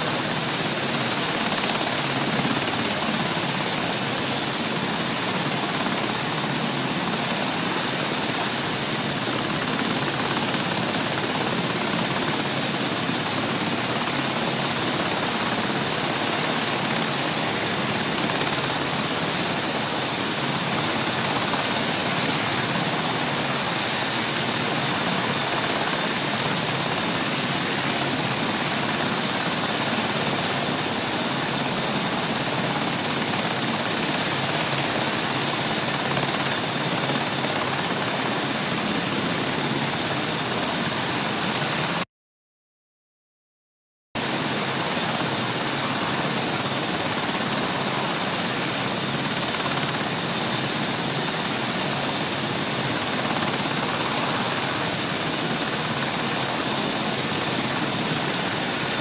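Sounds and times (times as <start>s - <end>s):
helicopter engine noise: 0.0s - 42.0s, 44.2s - 59.0s.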